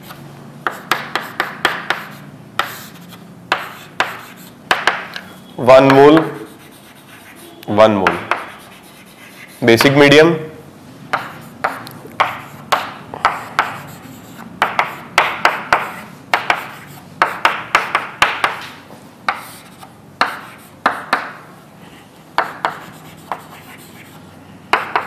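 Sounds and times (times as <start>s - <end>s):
writing taps and scrapes on board: 0.0s - 7.1s, 8.0s - 10.0s, 11.1s - 14.0s, 14.6s - 21.4s, 22.4s - 25.0s.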